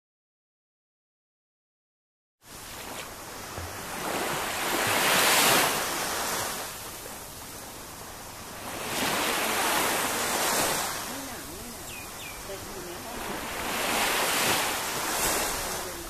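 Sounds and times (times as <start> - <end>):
small waves washing onto sand: 2.5 - 16.0.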